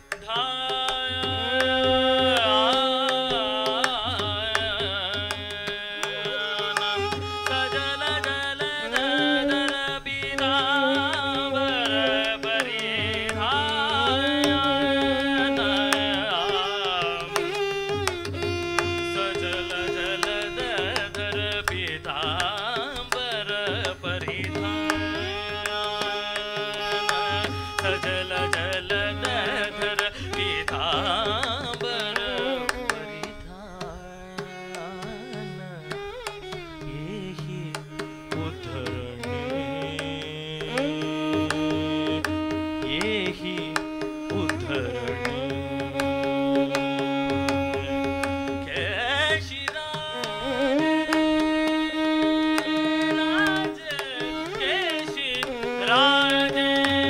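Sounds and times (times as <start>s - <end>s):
person singing: 0.3s - 57.0s
violin melody: 1.2s - 57.0s.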